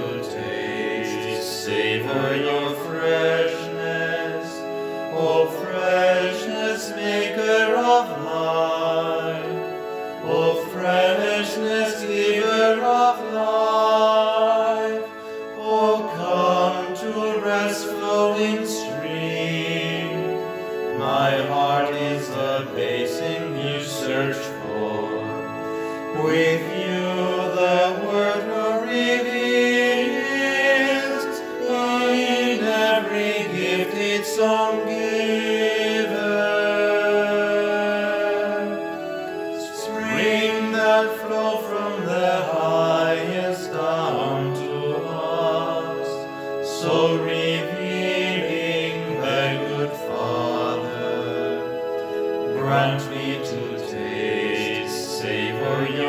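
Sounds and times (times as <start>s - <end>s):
priests singing a hymn: 0.0s - 56.0s.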